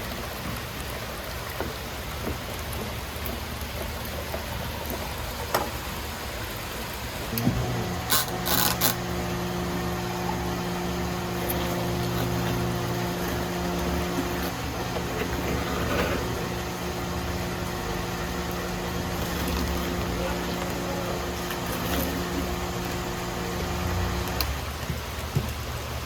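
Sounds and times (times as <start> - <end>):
low mechanical hum: 3.6 - 25.8.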